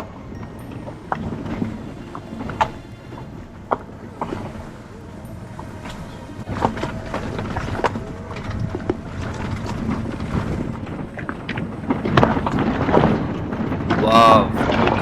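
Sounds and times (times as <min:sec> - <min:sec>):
vehicle rumbling on rough road: 0:00.0 - 0:15.0
wind on microphone: 0:00.0 - 0:15.0.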